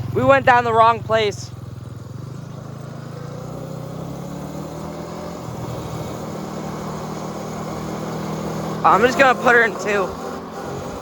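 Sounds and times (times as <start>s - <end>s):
small vehicle motor running: 0.0s - 11.0s.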